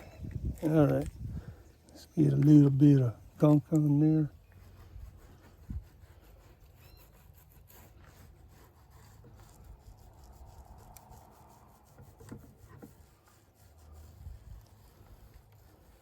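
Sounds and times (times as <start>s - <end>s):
faint rubbing and scraping: 0.0s - 16.0s.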